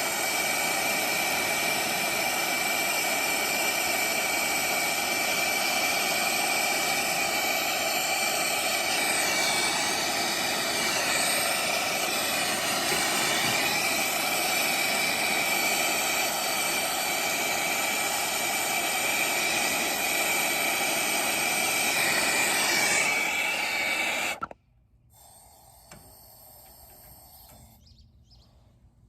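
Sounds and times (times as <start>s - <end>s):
torch flame hissing: 0.0s - 24.6s, 25.2s - 27.8s.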